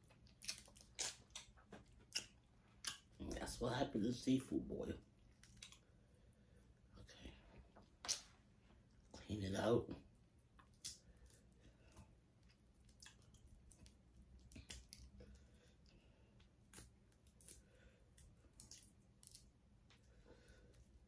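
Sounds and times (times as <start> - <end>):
person eating: 0.0 - 3.4, 5.2 - 9.0, 10.4 - 21.0
soft squishing of shellfish: 0.0 - 3.6, 5.0 - 9.3, 10.0 - 21.0.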